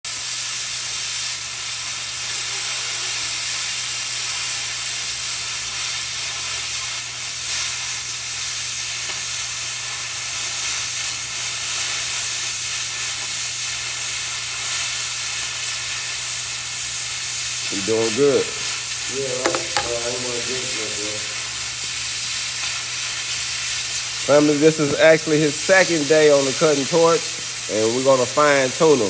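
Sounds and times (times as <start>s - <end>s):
cutting torch hissing: 0.1s - 29.0s.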